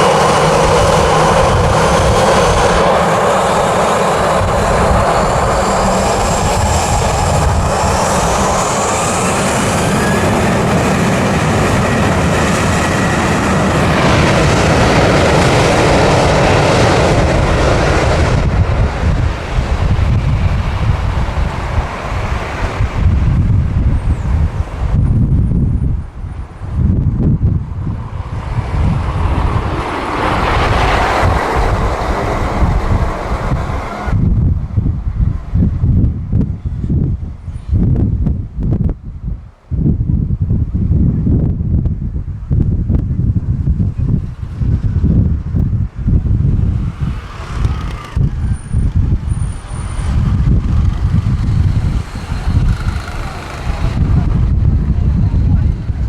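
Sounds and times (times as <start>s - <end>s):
jet engines roaring: 0.0s - 38.6s, 43.4s - 56.0s
wind buffeting microphone: 0.0s - 56.0s.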